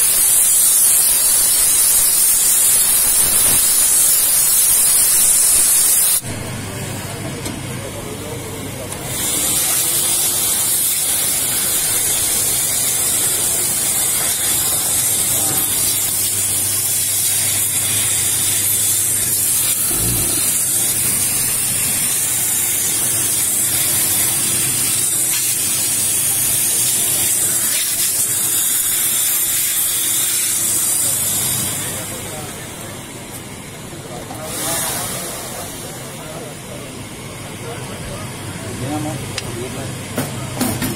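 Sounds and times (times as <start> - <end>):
steam jet hissing: 0.0 - 6.2, 8.9 - 33.4, 34.3 - 37.4.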